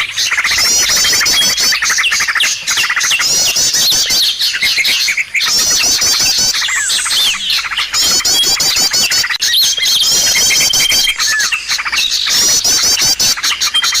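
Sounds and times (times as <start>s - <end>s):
high sweeping bird notes: 0.0s - 14.0s
small birds chirping and twittering: 0.0s - 14.0s.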